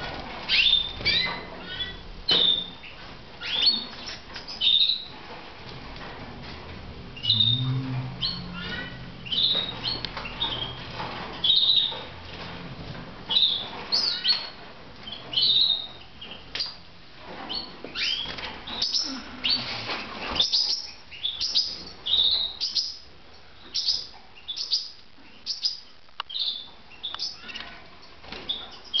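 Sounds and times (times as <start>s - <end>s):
canaries chirping: 0.0s - 29.0s.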